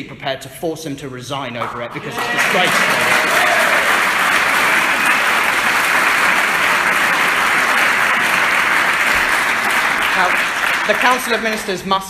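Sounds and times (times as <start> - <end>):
audience applauding: 1.9 - 12.0.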